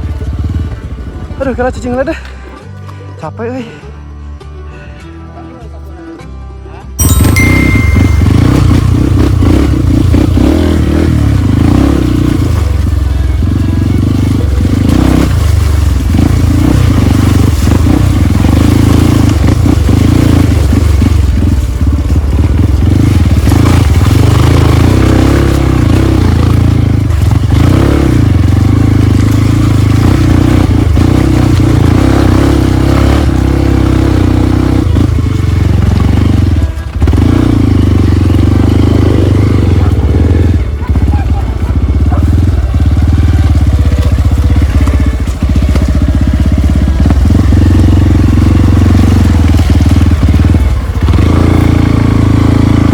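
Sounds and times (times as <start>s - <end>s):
motorcycle engine running: 0.0s - 4.5s, 7.0s - 52.9s.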